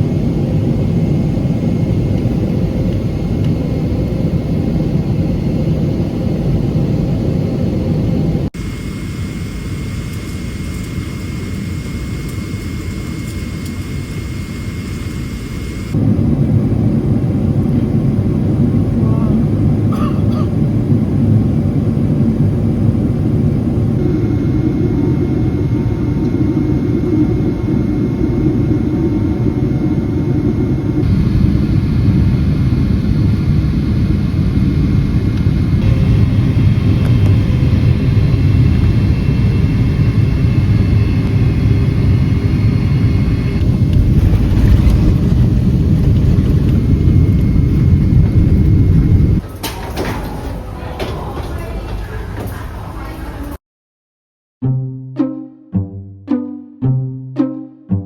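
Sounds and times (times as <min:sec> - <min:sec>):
aircraft cabin rumble: 0:00.0 - 0:53.6.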